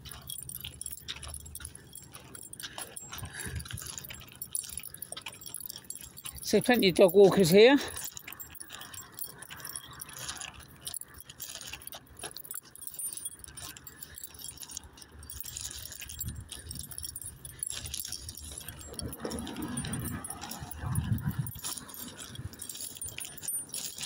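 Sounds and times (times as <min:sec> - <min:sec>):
light metallic jingling: 0:00.0 - 0:24.0
small clicks and rustles: 0:00.0 - 0:24.0.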